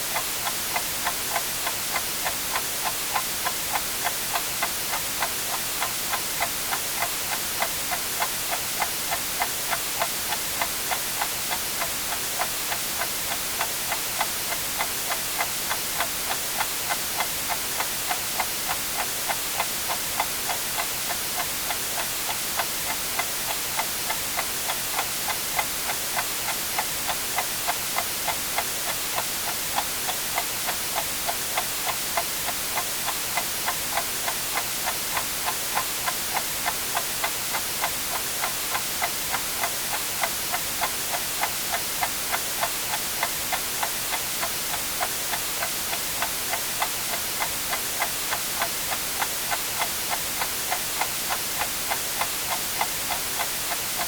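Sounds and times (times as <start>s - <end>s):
white-noise hiss: 0.0s - 54.0s
clock ticking: 0.2s - 54.0s.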